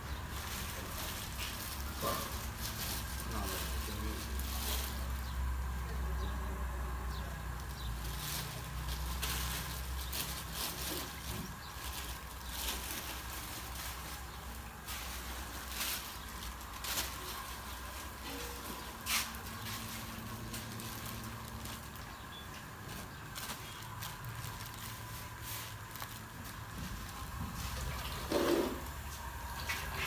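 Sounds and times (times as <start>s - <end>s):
plastic bags crinkling: 0.0s - 6.1s, 7.1s - 30.0s
steady low hum: 0.0s - 30.0s.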